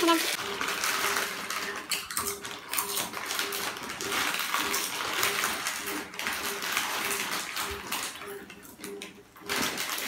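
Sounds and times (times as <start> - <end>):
chips crunching: 0.0 - 8.7, 9.4 - 10.0
foil packets crinkling: 0.0 - 10.0.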